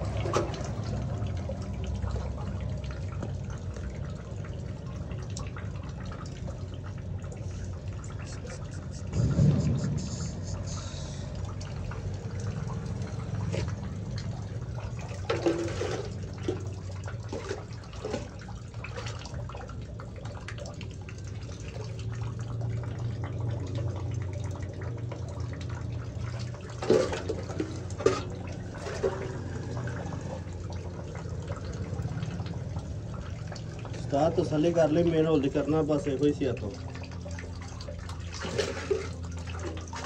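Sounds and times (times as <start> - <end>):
sewage water sloshing and splashing: 0.0 - 40.0
steady low hum: 0.6 - 34.6.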